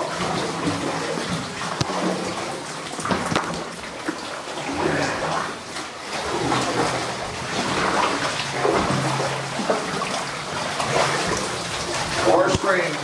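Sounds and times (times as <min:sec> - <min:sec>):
kayak paddles splashing: 0:00.0 - 0:13.0
water trickling: 0:00.0 - 0:13.0.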